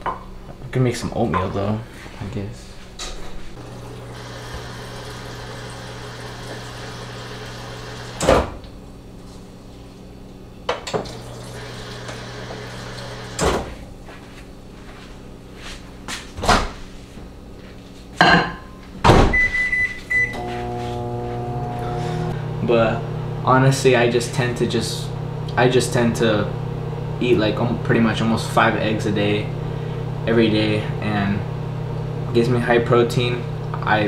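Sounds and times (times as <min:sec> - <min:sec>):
microwave oven humming: 0:03.0 - 0:15.5, 0:18.4 - 0:34.0.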